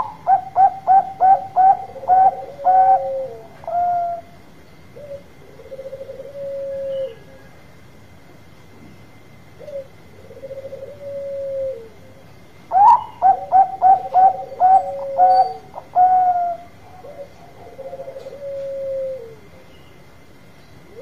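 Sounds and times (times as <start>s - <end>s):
dove cooing: 0.0s - 7.6s, 9.6s - 19.7s.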